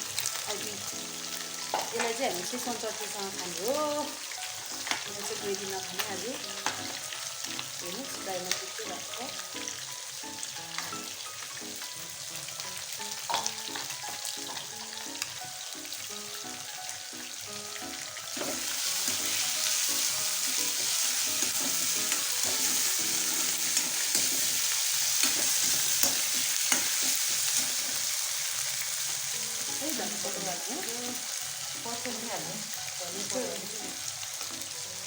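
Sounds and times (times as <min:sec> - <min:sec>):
chicken deep-frying in hot oil: 0:00.0 - 0:35.0.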